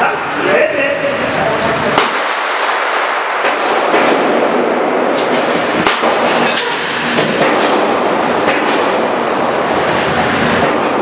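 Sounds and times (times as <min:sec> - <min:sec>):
steady rushing noise: 0:00.2 - 0:11.0.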